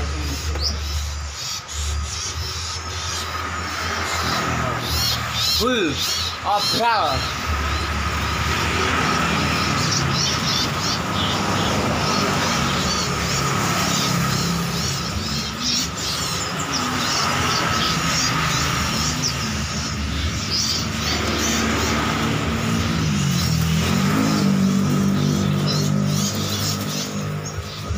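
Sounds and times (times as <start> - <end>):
motor engines droning: 0.0 - 27.9
songbirds chirping: 0.0 - 27.9.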